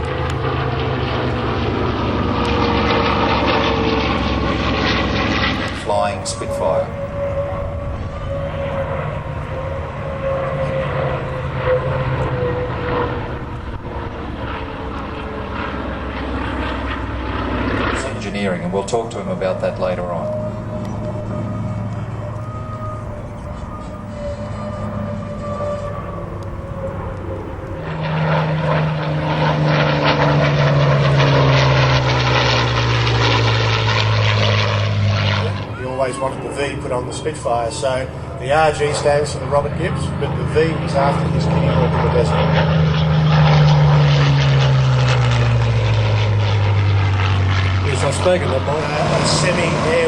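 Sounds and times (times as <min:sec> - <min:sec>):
propeller plane engine drone: 0:00.0 - 0:50.0.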